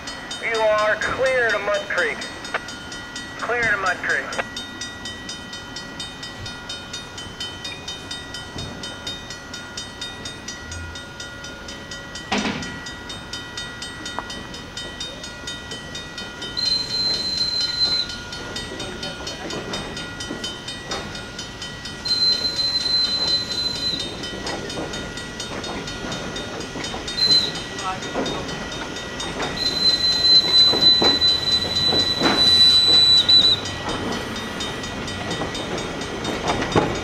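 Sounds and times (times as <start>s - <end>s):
crossing bell ringing: 0.0s - 37.0s
train rolling slowly: 0.0s - 37.0s.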